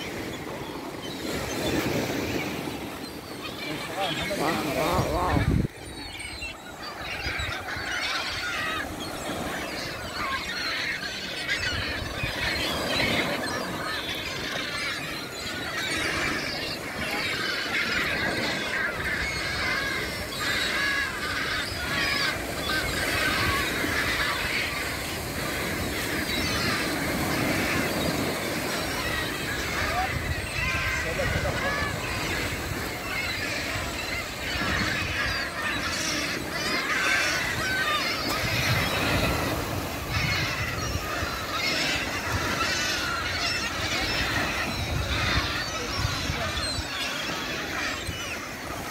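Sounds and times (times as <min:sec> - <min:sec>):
gulls calling: 0:00.0 - 0:48.9
surf: 0:00.0 - 0:48.9.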